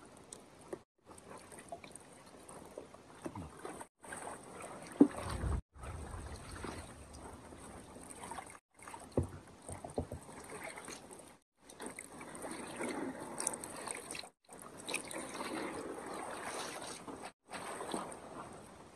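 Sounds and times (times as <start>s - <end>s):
water sloshing in a pan: 0.8s - 18.9s.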